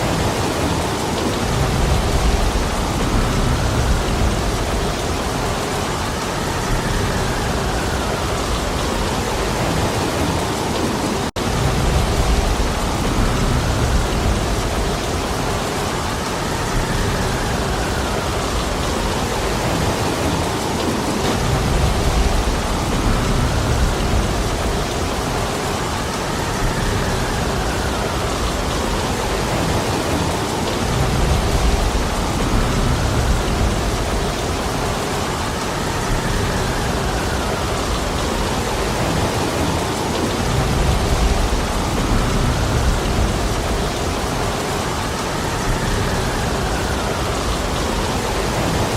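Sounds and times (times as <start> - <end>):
heavy rain hissing: 0.0 - 48.9
rumbling gusts of wind: 0.0 - 48.9.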